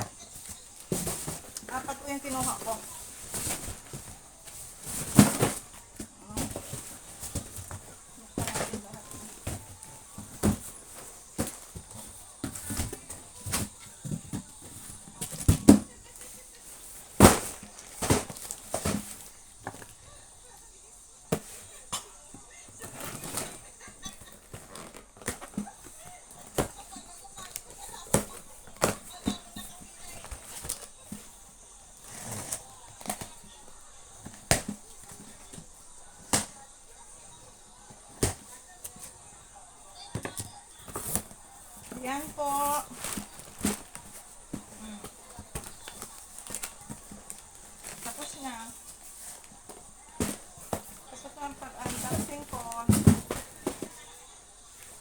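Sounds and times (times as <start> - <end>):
boxes knocking as set down: 0.0 - 20.5, 21.2 - 55.0
packaging rustling: 0.0 - 55.0.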